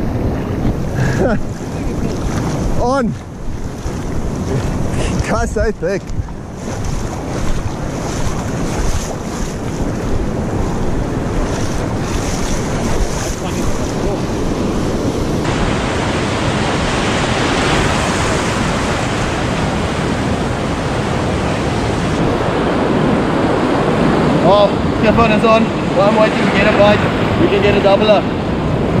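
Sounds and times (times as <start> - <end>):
ocean surf washing: 0.0 - 29.0
wind buffeting microphone: 0.0 - 29.0.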